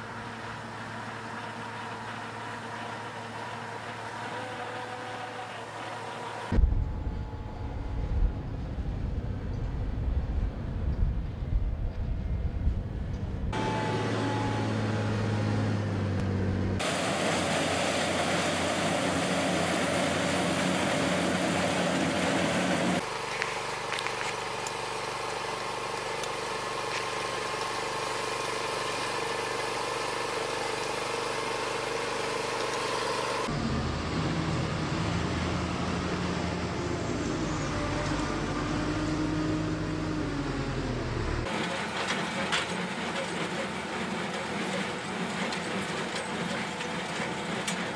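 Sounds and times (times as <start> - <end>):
harvest machines running: 0.0 - 7.9, 13.6 - 47.9
diesel engine of wheel loader: 0.0 - 47.9
engine pitch rising and falling: 1.4 - 42.4.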